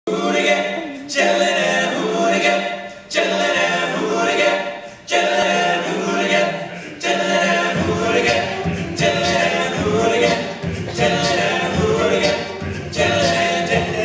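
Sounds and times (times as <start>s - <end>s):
male group singing in harmony: 0.1s - 14.0s.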